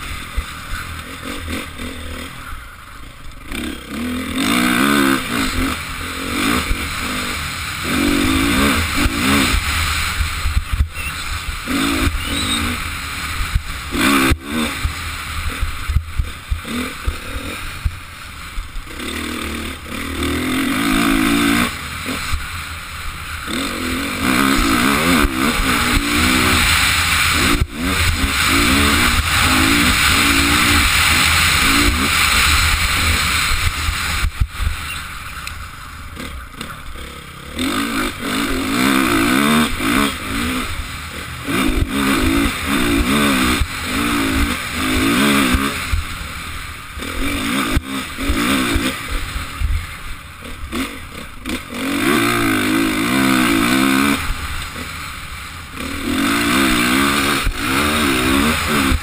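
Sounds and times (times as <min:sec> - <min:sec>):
motocross bike engine revving: 0:00.0 - 0:59.0
steady rushing hiss: 0:00.0 - 0:59.0.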